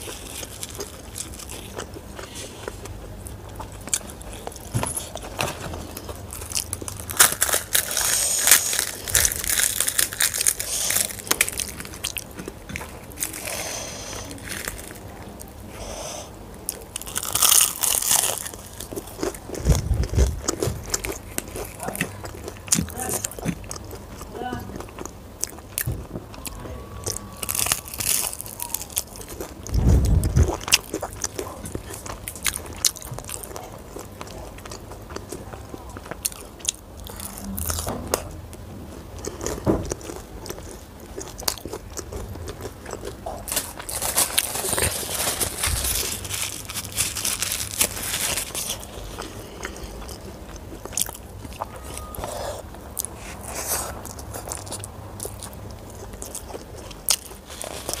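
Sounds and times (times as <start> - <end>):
close chewing: 0.0 - 58.0.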